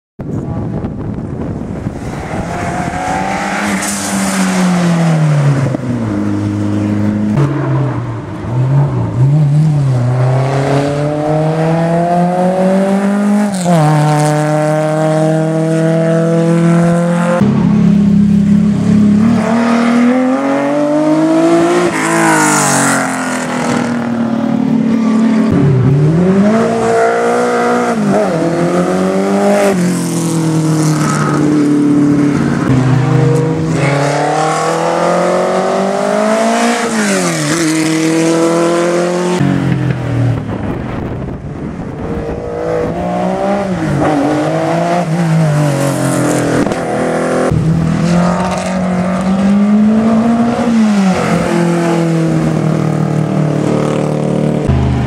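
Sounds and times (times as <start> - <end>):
racing car engines revving: 0.3 - 55.0.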